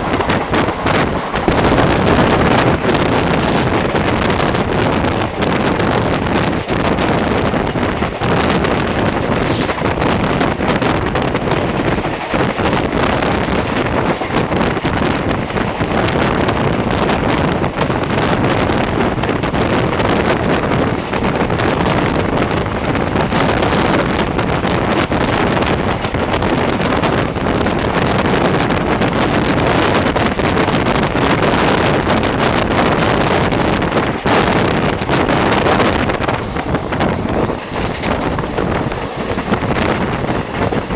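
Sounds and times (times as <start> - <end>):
train running noise: 0.0 - 40.9
wind buffeting microphone: 0.0 - 40.9.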